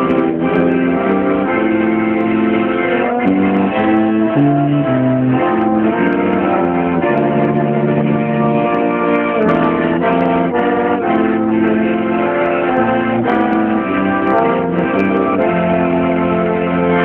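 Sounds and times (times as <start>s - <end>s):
accordion: 0.0s - 17.0s
slide trombone: 0.0s - 17.0s
trumpet: 0.0s - 17.0s.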